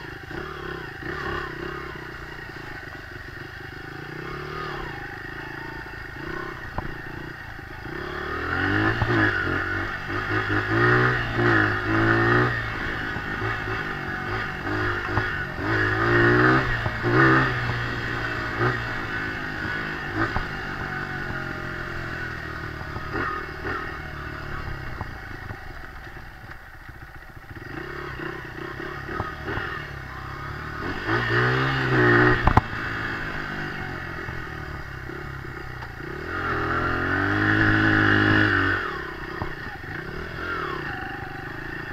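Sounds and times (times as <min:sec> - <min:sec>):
dirt bike engine revving: 0:00.0 - 0:26.3, 0:27.4 - 0:41.9.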